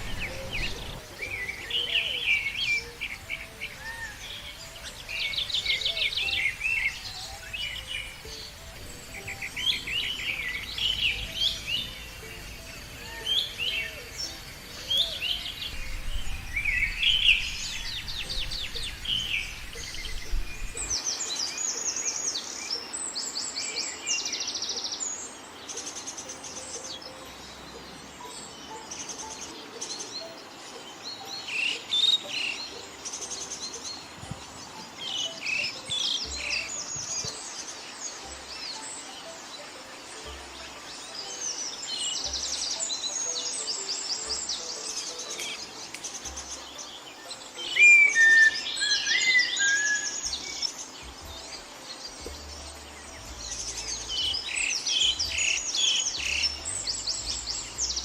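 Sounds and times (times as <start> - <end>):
birds chirping and trilling: 0.0 - 58.0
whistled bird notes: 0.0 - 58.0.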